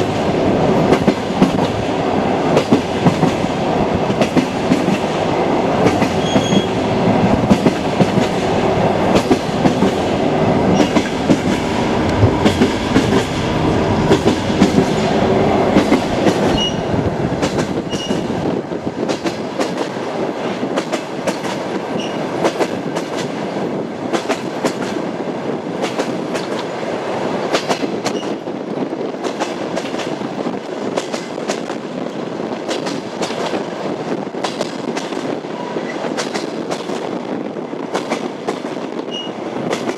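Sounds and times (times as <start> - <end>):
train wheels clattering: 0.0 - 23.4, 24.1 - 25.1, 27.5 - 28.5, 29.1 - 37.2, 37.8 - 39.9
low train rumble: 0.0 - 39.9.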